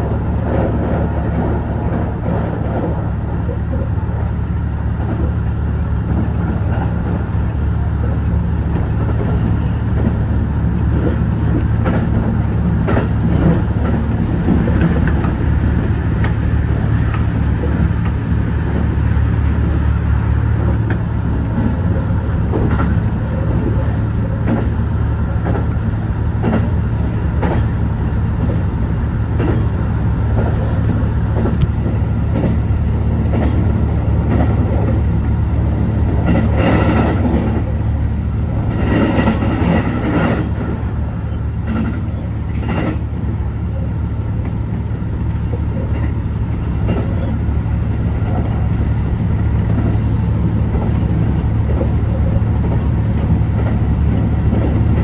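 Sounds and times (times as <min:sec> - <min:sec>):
railcar running hum: 0:00.0 - 0:55.0.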